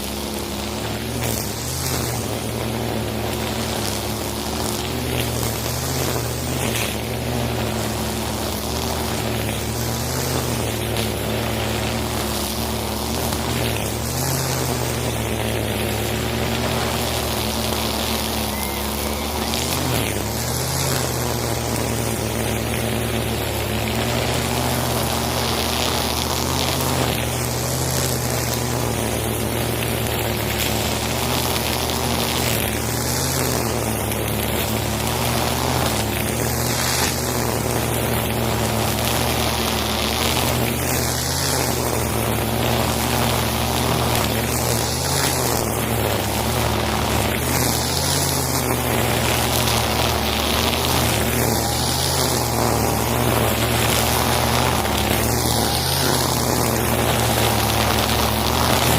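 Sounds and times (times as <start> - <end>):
brush cutter engine running: 0.0 - 58.9
trimmer line swishing through grass: 0.0 - 58.9.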